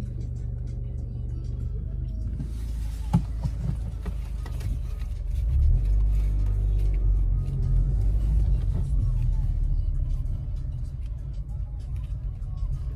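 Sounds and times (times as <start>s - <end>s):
car interior rumble: 0.0s - 12.9s.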